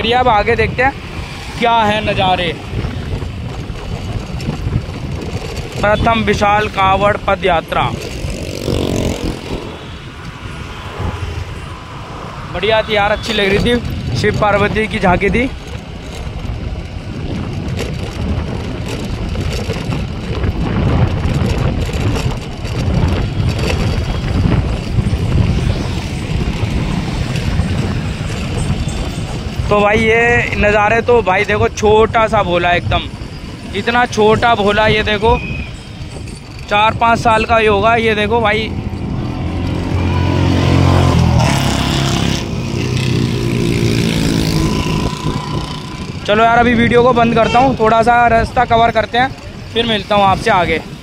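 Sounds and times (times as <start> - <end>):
motorbike engine: 0.0 - 51.0
road noise: 0.0 - 51.0
wind buffeting microphone: 0.0 - 51.0.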